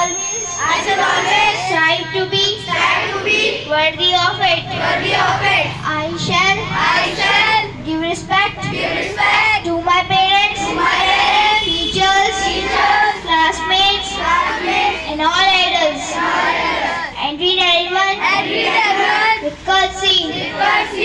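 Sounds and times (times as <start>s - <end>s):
children chanting in unison: 0.6s - 7.8s, 8.5s - 17.2s, 17.8s - 21.0s.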